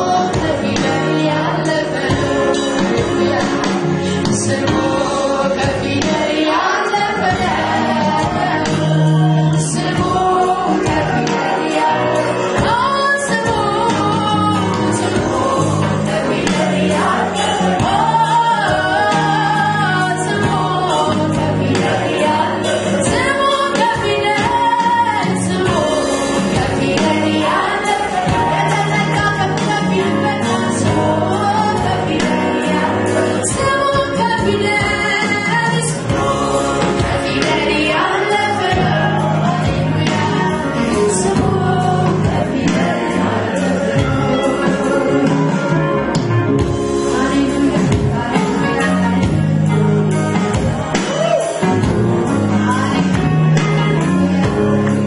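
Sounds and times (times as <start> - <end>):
woman singing into a microphone: 0.0 - 45.0, 47.0 - 49.2
band with drums: 0.0 - 55.0
congregation singing along: 0.0 - 55.0.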